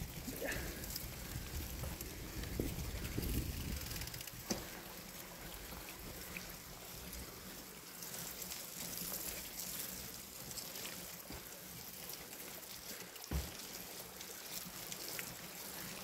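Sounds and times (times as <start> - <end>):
bicycle rattle: 0.0 - 16.0
bicycle tyres rolling on dirt: 0.0 - 16.0.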